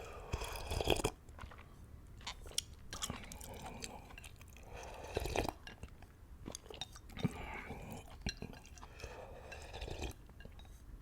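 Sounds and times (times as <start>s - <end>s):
person chewing noodles: 0.0s - 10.8s.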